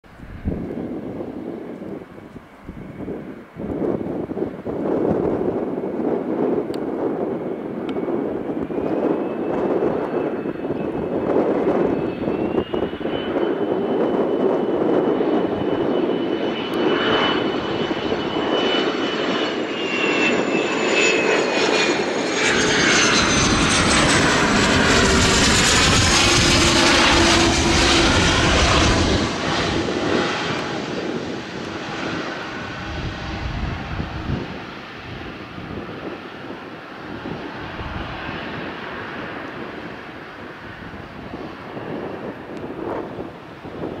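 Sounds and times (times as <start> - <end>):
jet whine passing overhead: 0.1 - 44.0.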